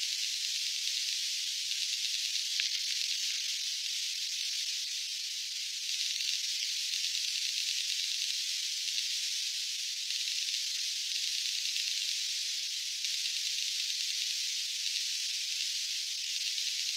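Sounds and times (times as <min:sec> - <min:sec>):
high-pitched hiss: 0:00.0 - 0:16.9.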